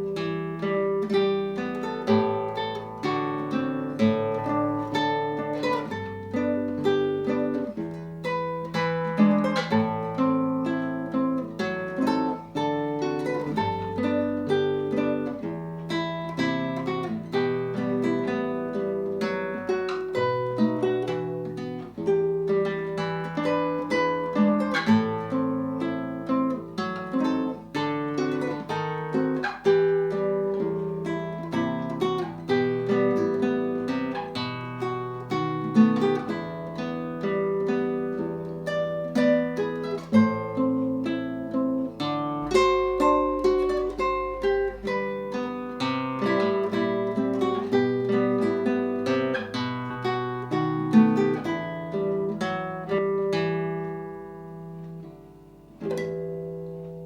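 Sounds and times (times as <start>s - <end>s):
fingerstyle guitar: 0.0s - 57.0s.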